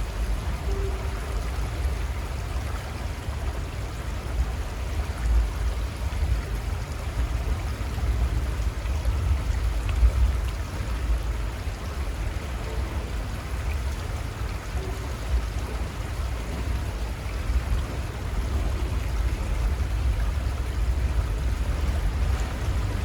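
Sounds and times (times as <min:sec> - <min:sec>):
low uneven rumble: 0:00.0 - 0:23.0
river water rushing: 0:00.0 - 0:23.0.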